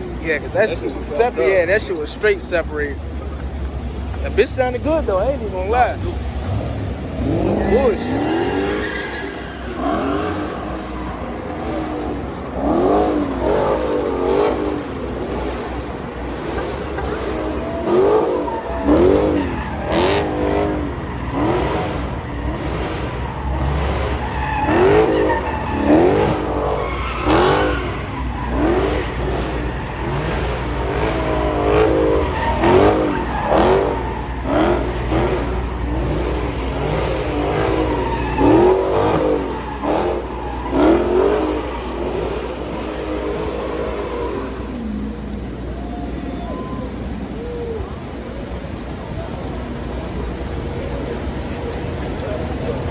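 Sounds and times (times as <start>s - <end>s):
car engine revving hard: 0.0s - 52.9s
tyres squealing: 0.0s - 52.9s.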